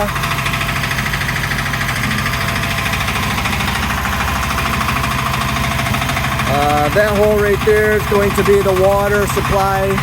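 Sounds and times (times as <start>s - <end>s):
small engine idling: 0.0s - 10.0s.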